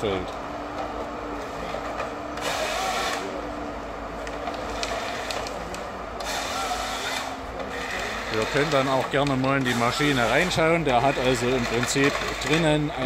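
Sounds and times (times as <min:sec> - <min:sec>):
harvester engine and hydraulics drone: 0:00.0 - 0:13.0.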